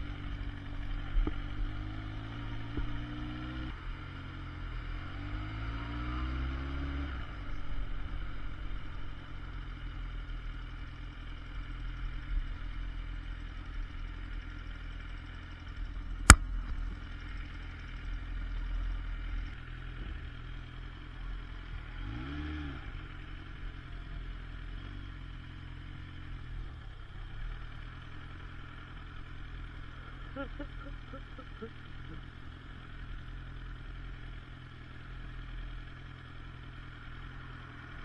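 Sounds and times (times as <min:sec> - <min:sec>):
motorcycle engine idling: 0:00.0 - 0:05.8, 0:07.2 - 0:38.0
motorcycle engine revving: 0:00.0 - 0:11.0, 0:17.4 - 0:38.0.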